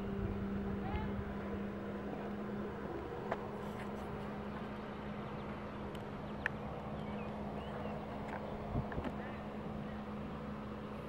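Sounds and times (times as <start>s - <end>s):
boat motor droning: 0.0s - 11.0s.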